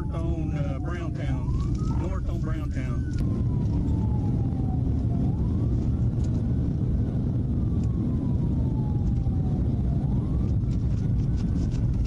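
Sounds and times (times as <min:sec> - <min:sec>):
engine and road noise: 0:00.0 - 0:12.0
police siren wailing: 0:00.0 - 0:12.0.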